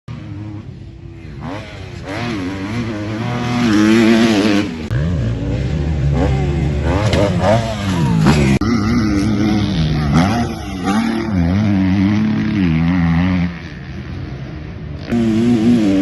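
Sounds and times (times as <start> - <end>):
motocross bike engine revving: 0.1 - 16.0.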